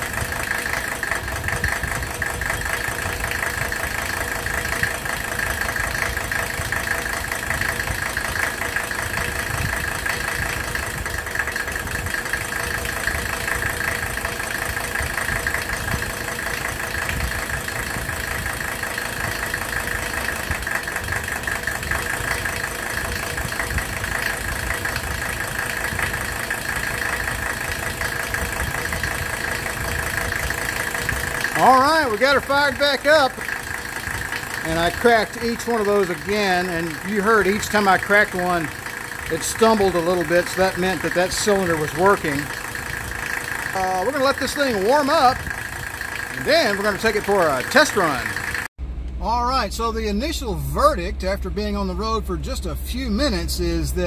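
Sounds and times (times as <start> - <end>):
diesel engine idling with clatter: 0.0 - 54.0.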